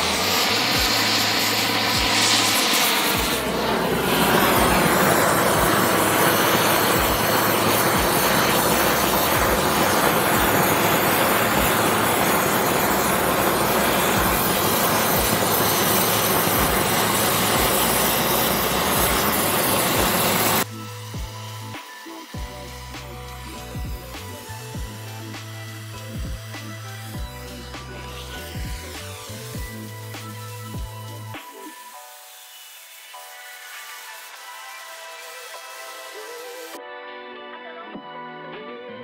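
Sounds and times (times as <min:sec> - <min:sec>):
cutting torch flame hissing: 0:00.0 - 0:36.8.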